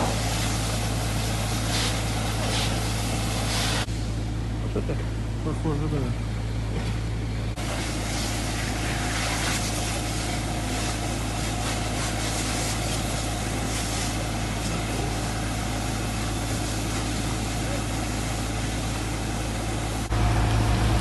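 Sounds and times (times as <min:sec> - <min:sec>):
low engine-like drone: 0:00.0 - 0:21.0.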